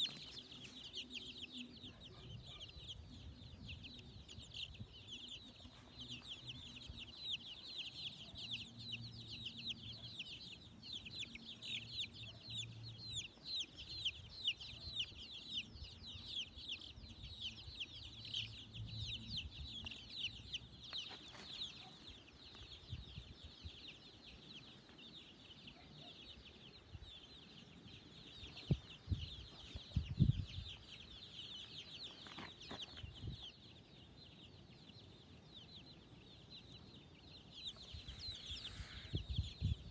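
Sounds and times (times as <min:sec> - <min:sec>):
chick peeping rapidly: 0:00.0 - 0:39.9.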